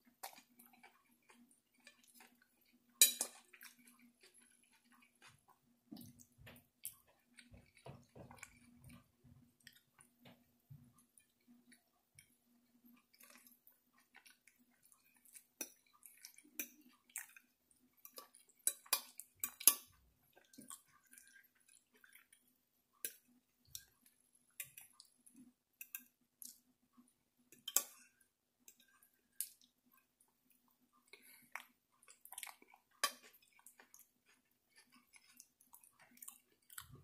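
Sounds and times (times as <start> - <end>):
soft chewing: 0.0 - 37.0.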